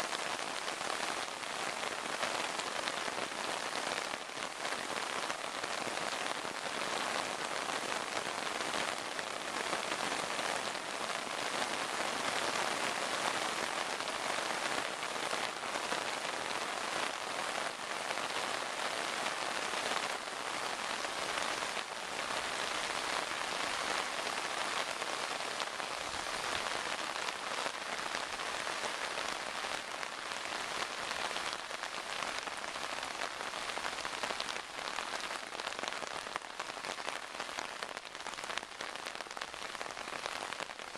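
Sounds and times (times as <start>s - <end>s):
torrential rain on river: 0.0s - 40.9s.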